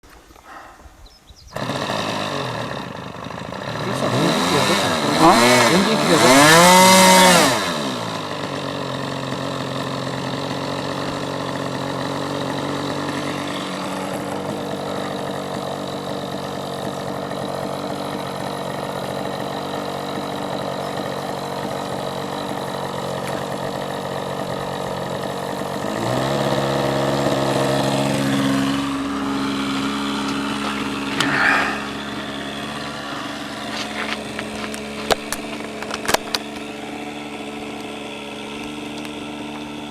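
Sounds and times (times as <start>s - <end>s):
model airplane engine revving: 1.4s - 39.9s.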